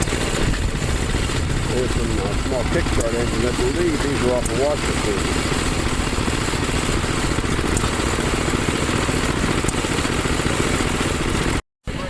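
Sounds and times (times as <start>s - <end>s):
small gasoline engines puttering: 0.0s - 12.0s.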